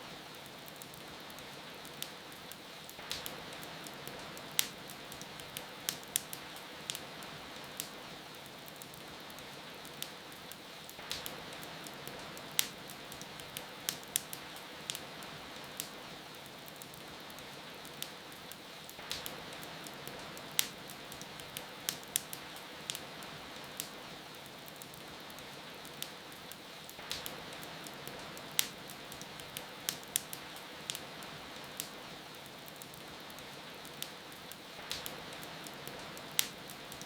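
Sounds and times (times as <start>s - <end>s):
rain falling: 0.0s - 37.0s
wood fire crackling and popping: 0.0s - 37.0s.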